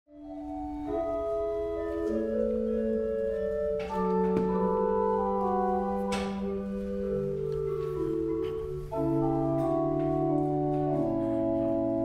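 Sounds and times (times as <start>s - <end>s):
slow music of long held notes: 0.1s - 12.0s.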